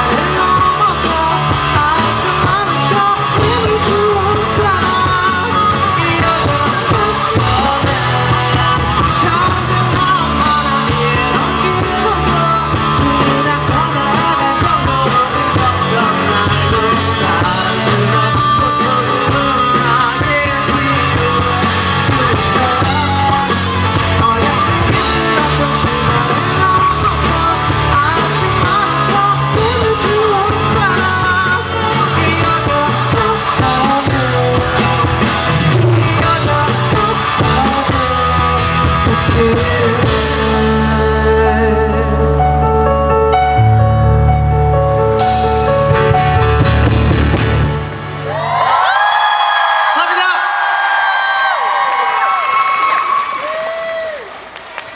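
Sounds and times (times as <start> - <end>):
man singing: 0.0 - 46.8
pop-rock band playing live: 0.0 - 49.4.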